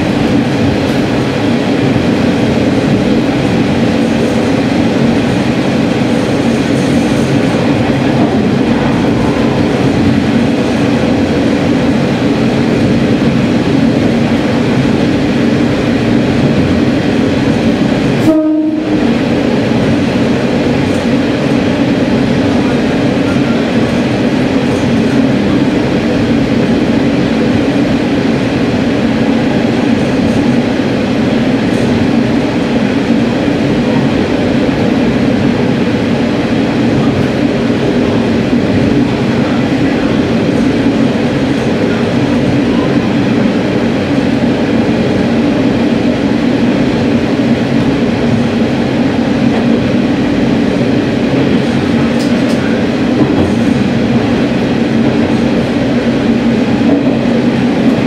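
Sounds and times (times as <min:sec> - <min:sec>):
railcar engine and wheels drone: 0:00.0 - 0:58.0.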